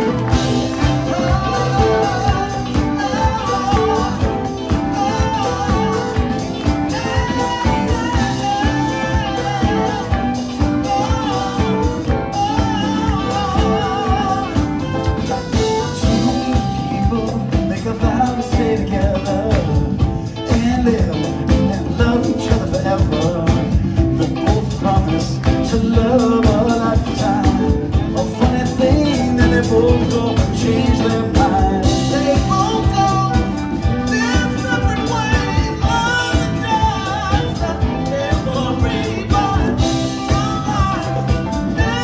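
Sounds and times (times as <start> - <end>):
live rock band playing: 0.0 - 42.0
people singing: 0.0 - 42.0.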